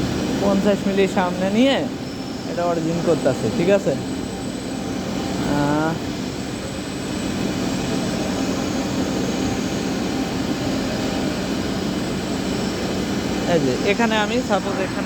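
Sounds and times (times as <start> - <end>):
router machine droning: 0.0 - 15.0.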